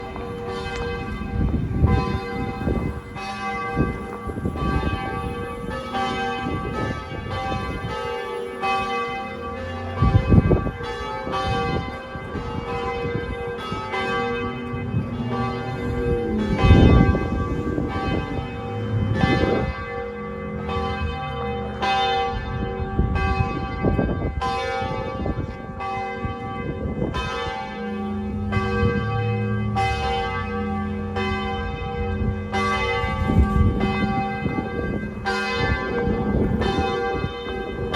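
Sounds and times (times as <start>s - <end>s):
church bells ringing: 0.0s - 37.9s.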